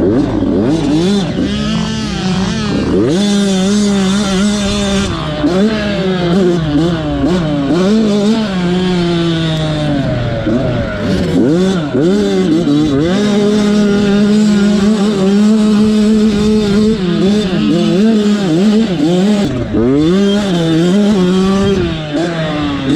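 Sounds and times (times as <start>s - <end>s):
dirt bike engine racing: 0.0s - 22.9s.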